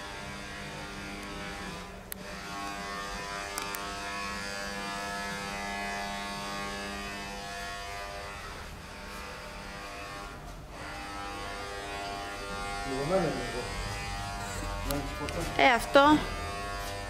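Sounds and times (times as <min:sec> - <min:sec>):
machine electric buzz: 0:00.0 - 0:17.0.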